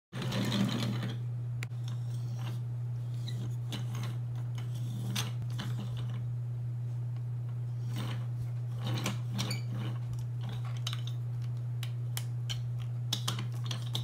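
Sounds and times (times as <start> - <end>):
low hum: 0.2 - 14.0.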